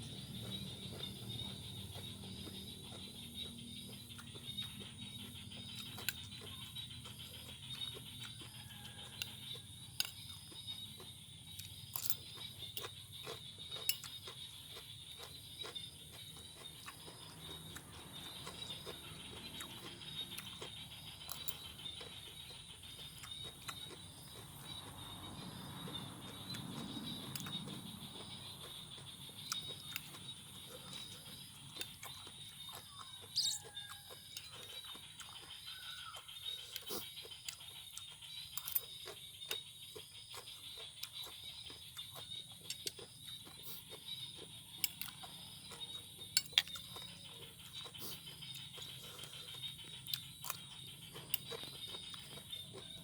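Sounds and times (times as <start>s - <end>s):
crunchy chewing of raw vegetables: 0.0s - 53.0s.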